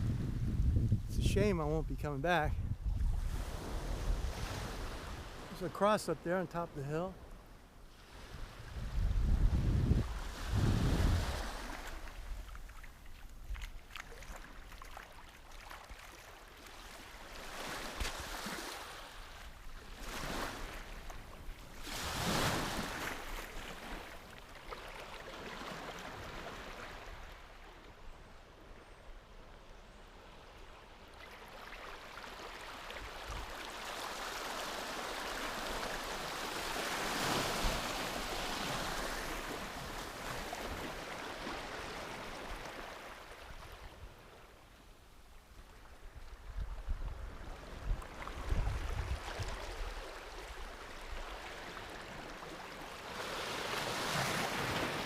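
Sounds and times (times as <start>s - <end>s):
small waves breaking on beach: 1.2s - 55.0s.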